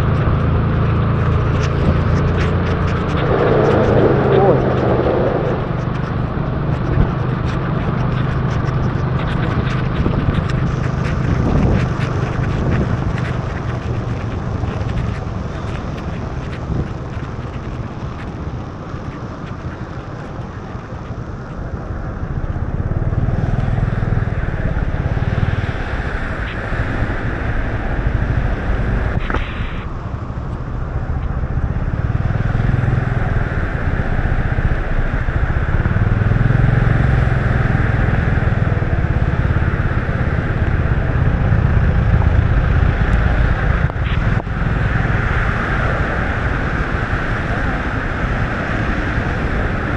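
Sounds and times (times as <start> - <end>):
rain: 0.0 - 49.9
scooter engine running: 0.0 - 49.9
wind: 0.0 - 49.9.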